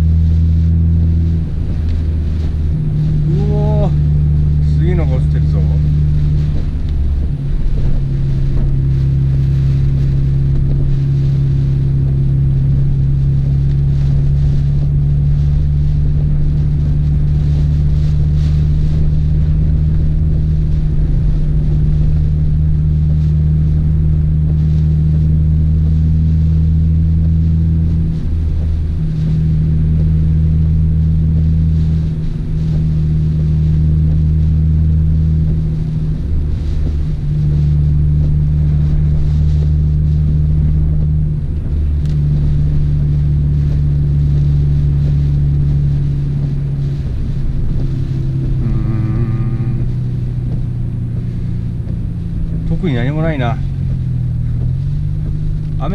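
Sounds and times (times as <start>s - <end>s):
car engine droning in cabin: 0.0s - 55.9s.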